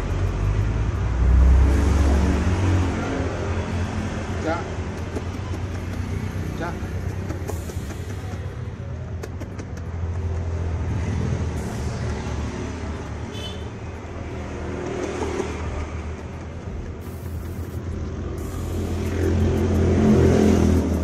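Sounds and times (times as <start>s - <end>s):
road traffic hum: 0.0s - 21.0s
vehicle approaching: 0.0s - 21.0s.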